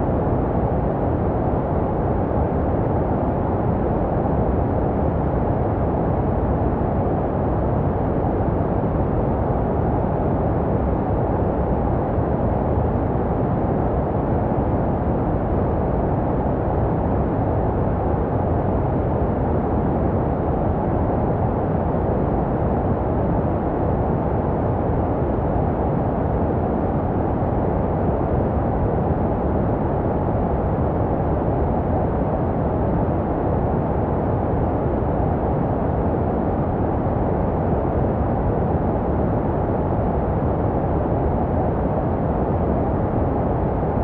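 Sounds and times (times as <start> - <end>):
deep muffled white noise: 0.0 - 44.0.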